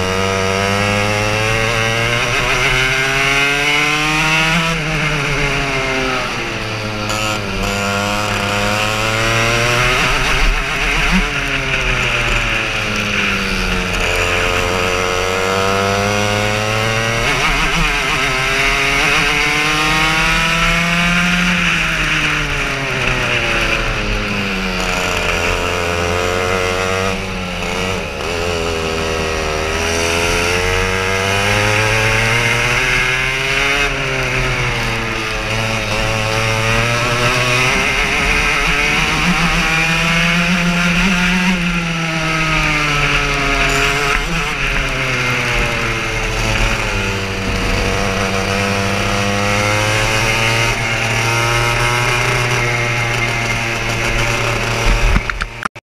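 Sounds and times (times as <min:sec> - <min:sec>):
kart engine revving: 0:00.0 - 0:55.8.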